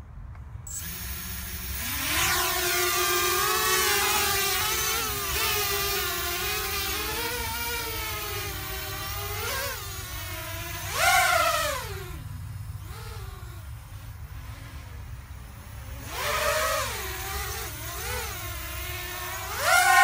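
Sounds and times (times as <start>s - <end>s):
drone propellers whining: 0.7s - 20.0s.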